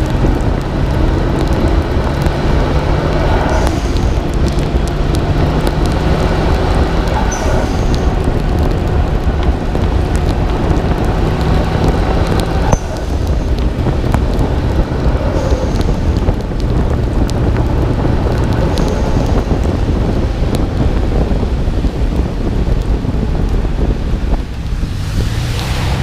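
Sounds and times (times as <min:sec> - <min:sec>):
wind and road noise: 0:00.0 - 0:26.0.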